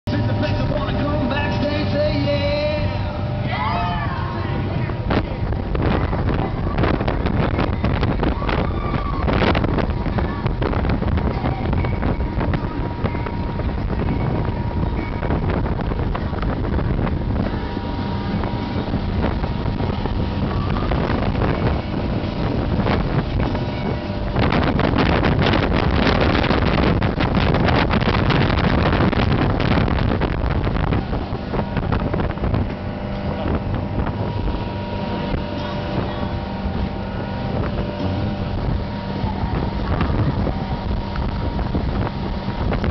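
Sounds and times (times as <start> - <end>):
hull rushing through choppy water: 0.0 - 42.9
motorboat engine drone: 0.0 - 42.9
wind buffeting microphone: 0.0 - 42.9.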